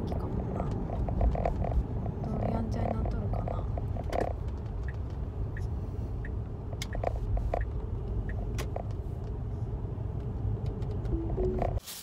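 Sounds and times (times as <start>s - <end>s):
road rumble inside car: 0.0s - 11.8s.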